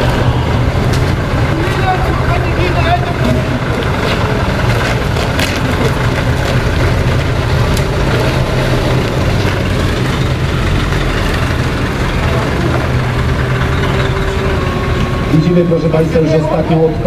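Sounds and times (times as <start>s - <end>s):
truck engine running at low revs: 0.0s - 17.0s.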